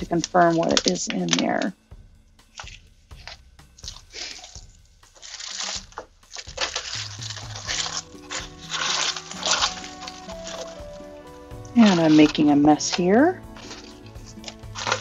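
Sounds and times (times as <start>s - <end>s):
paper and plastic rustling: 0.0s - 1.7s, 2.6s - 15.0s
soft background music: 0.0s - 15.0s.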